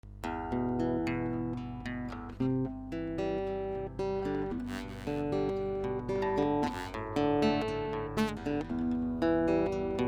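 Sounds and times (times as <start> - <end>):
acoustic guitar playing chords: 0.1 - 10.0.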